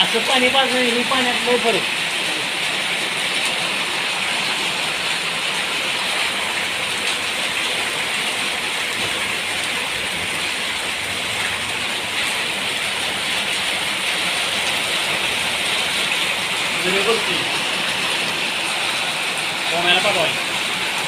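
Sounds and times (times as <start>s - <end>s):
hail and heavy rain clattering: 0.0s - 21.0s.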